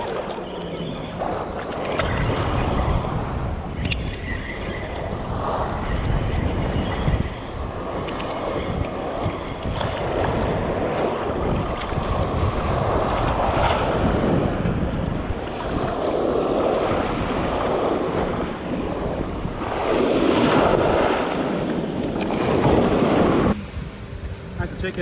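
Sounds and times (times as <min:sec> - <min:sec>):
sea water sloshing: 0:00.0 - 0:03.1, 0:07.6 - 0:24.8
wind buffeting microphone: 0:00.0 - 0:25.0.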